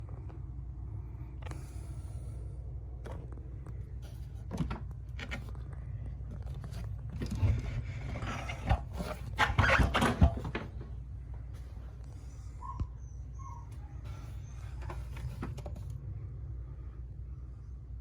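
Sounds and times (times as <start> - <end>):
amplifier low hum: 0.0 - 18.0.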